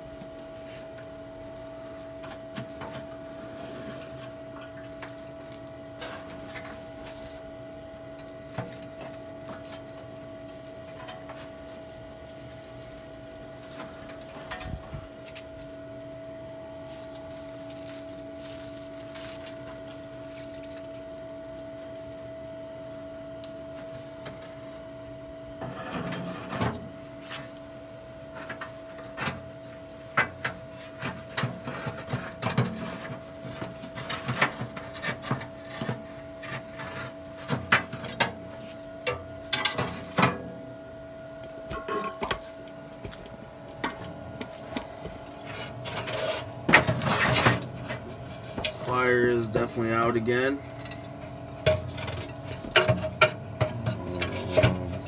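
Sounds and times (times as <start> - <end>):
grill motor humming: 0.0 - 55.0.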